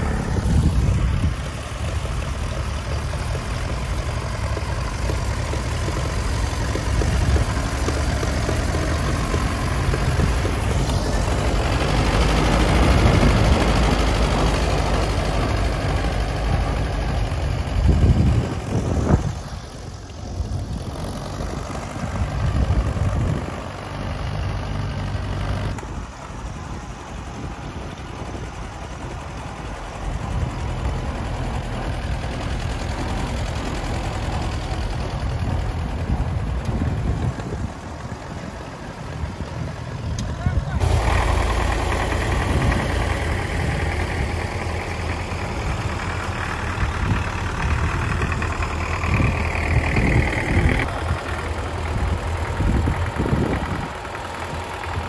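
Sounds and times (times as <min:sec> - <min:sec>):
tractor engines driving past: 0:00.0 - 0:55.0.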